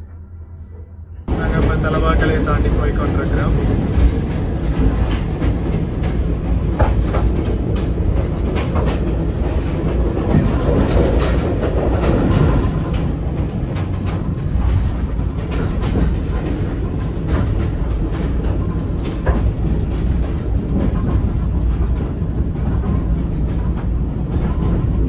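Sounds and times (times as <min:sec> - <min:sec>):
train wheels rumbling on rails: 0:01.2 - 0:25.0
train wheels clicking and clacking: 0:01.3 - 0:25.0.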